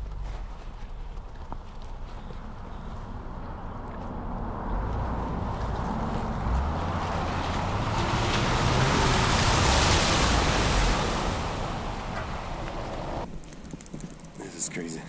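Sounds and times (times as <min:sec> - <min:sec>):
car engine rumble: 0:00.0 - 0:15.0
water and mud splashing: 0:00.0 - 0:15.0.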